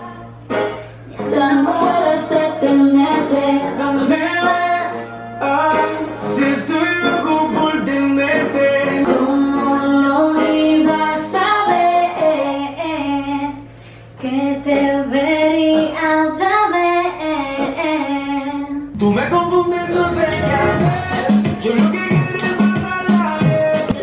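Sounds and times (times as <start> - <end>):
music backing: 0.0 - 24.0
woman singing pop song: 0.0 - 24.0.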